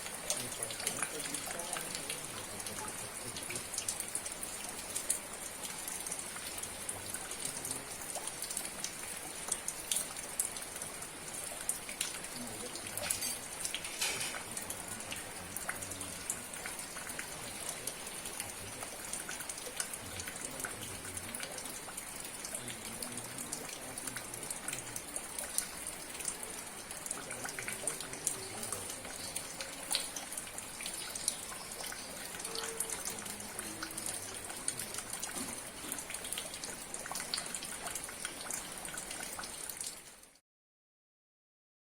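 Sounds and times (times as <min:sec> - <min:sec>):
rain hiss: 0:00.0 - 0:40.4
raindrops ticking: 0:00.0 - 0:40.4.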